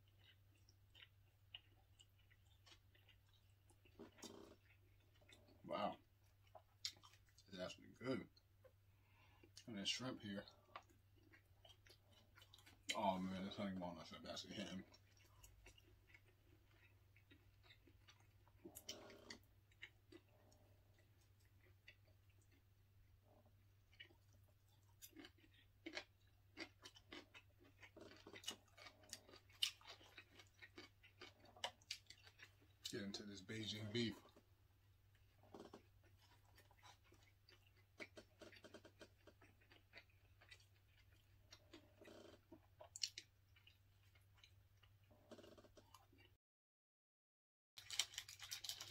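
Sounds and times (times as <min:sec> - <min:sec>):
chewing and mouth clicks: 0:00.0 - 0:46.3, 0:47.8 - 0:48.9.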